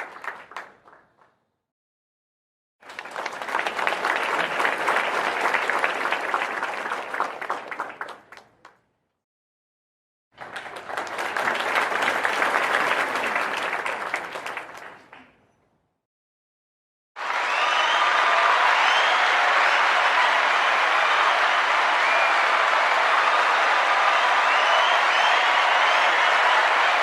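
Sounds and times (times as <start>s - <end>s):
crowd applause: 0.0s - 1.0s, 2.8s - 8.7s, 10.4s - 15.3s, 17.2s - 27.0s.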